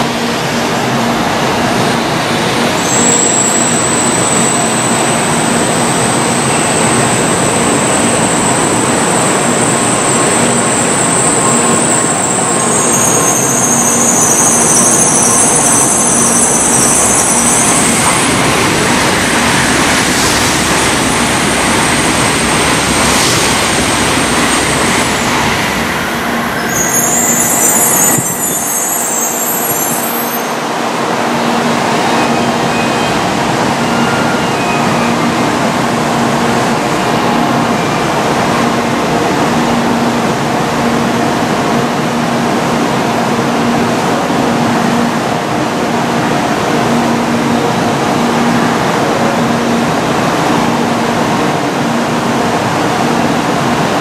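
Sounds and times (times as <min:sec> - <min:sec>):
train rumble with low hum: 0:00.0 - 0:54.0
train rushing past: 0:00.0 - 0:54.0.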